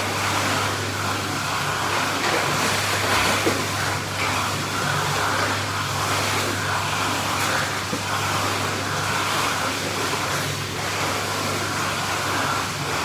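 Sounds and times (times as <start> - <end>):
churning water rushing: 0.0 - 13.0
pump motor hum: 0.0 - 13.0
swimmer splashing: 0.0 - 13.0.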